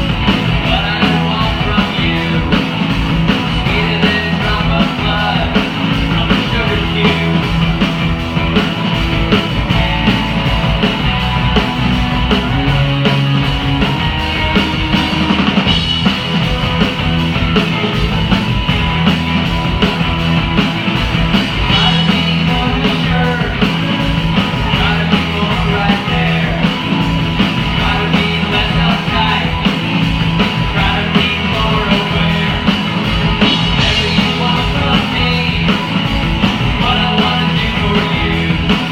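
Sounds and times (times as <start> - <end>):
drum kit beat: 0.0 - 38.9
rock band playing: 0.0 - 38.9.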